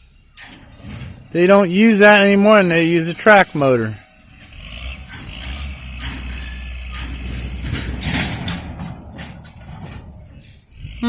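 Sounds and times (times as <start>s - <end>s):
low engine rumble: 0.0s - 11.0s
metallic clanks of rail cars: 0.0s - 11.0s.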